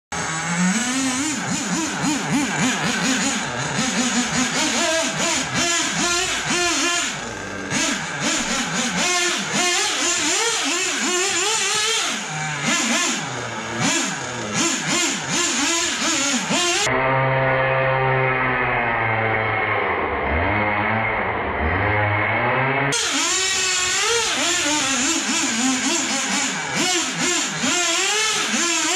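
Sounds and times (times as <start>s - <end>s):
small nitro engine revving: 0.1s - 28.9s.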